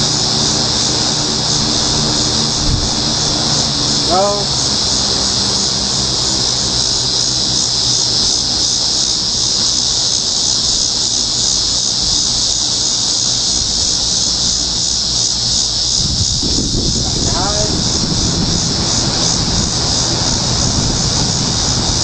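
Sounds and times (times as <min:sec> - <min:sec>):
breeze on microphone: 0:00.0 - 0:22.0
fan motor humming and buzzing: 0:00.0 - 0:22.0.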